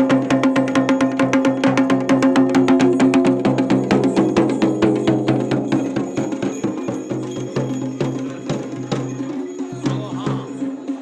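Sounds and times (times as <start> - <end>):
fast drum strikes: 0.0 - 11.0.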